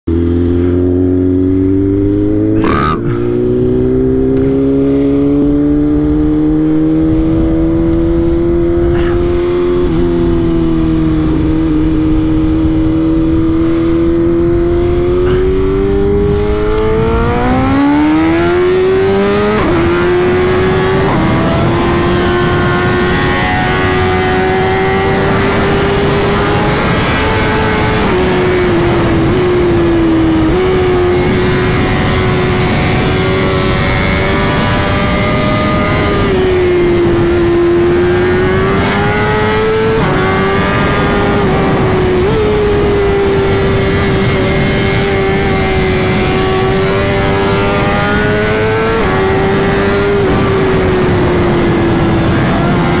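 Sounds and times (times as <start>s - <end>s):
motorcycle engine accelerating: 0.0s - 53.0s
wind noise: 0.3s - 53.0s.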